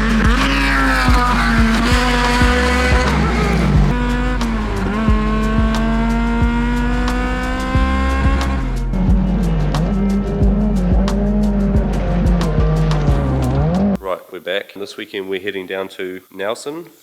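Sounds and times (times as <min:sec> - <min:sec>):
music with beat and bass line: 0:00.0 - 0:14.0
race vehicle engine accelerating: 0:00.0 - 0:14.0.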